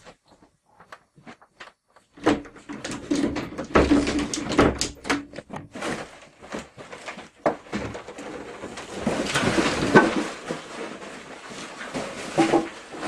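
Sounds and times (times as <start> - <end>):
rustling and knocking in closet: 0.0 - 13.0.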